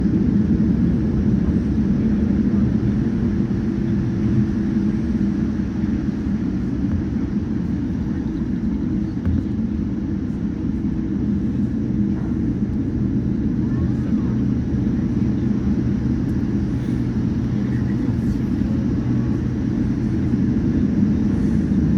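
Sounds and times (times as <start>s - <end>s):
jet engines rumbling: 0.0s - 21.9s.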